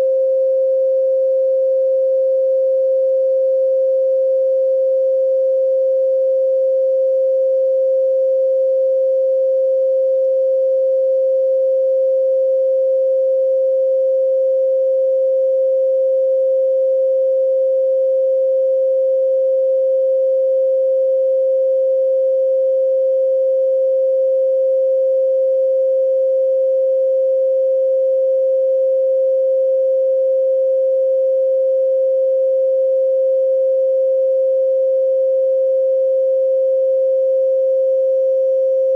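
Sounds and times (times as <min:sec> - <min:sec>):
pure sine tone: 0:00.0 - 0:38.9.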